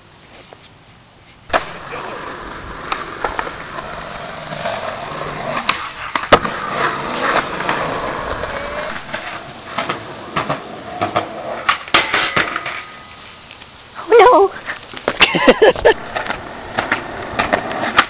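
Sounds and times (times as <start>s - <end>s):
skateboard wheels rolling on concrete: 0.0s - 18.0s
skateboard clacking on ground: 1.5s - 13.6s, 14.9s - 18.0s.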